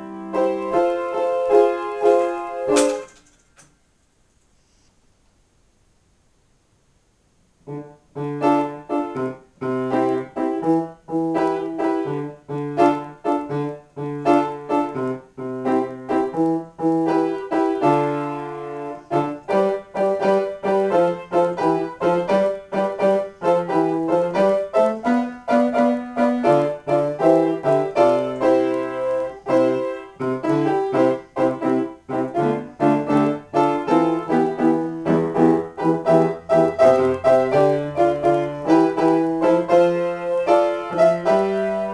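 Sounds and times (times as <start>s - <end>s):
grand piano playing: 0.0s - 3.2s, 7.7s - 41.9s.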